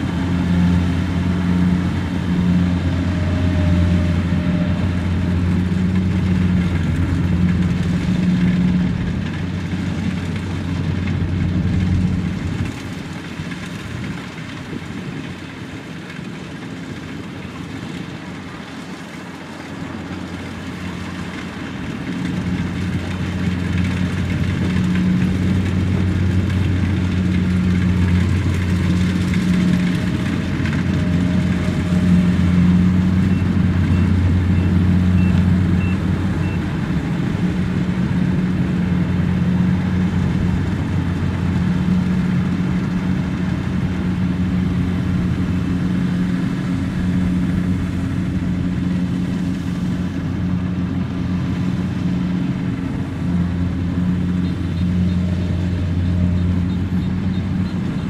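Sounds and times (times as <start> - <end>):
combine harvester engine droning: 0.0 - 58.0.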